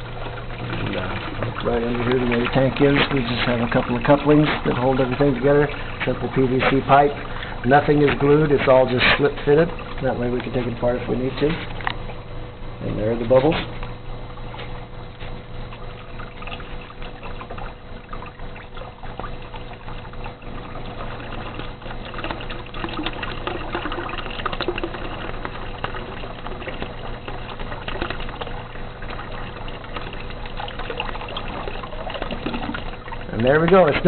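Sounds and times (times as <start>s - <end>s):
water pouring and splashing into tank: 0.0s - 12.2s, 12.8s - 34.0s
faint steady hum: 0.0s - 34.0s.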